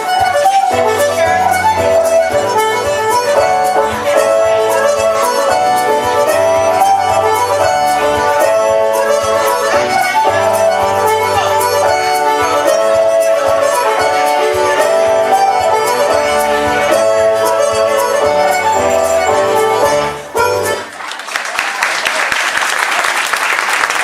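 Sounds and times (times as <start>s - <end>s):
lively folk dance music: 0.0s - 21.4s.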